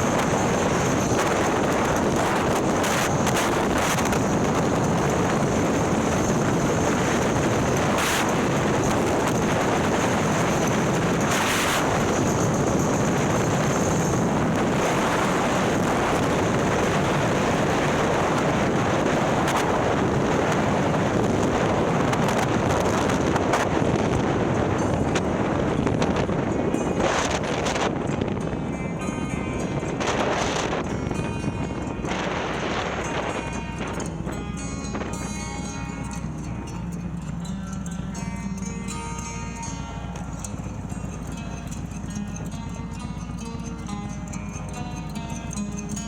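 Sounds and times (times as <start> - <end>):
wind rushing over microphone: 0.0 - 43.6
motorcycle running at road speed: 0.0 - 46.0.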